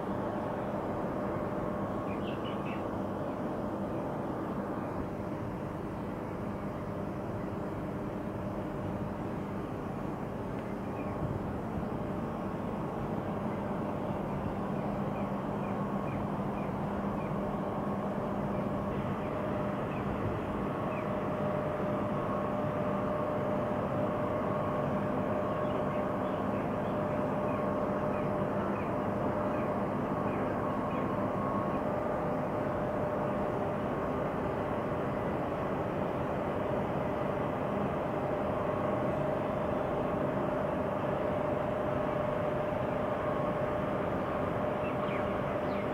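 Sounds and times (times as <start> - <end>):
industrial machinery hum: 0.0 - 45.9.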